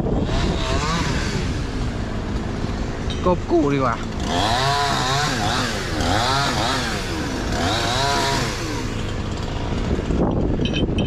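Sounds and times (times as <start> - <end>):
chainsaw running: 0.0 - 10.7.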